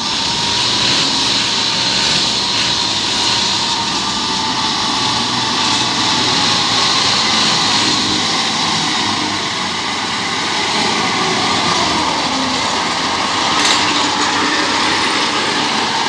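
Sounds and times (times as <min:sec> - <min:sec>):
clatter of tracks: 0:00.0 - 0:16.0
engine running: 0:00.0 - 0:16.0.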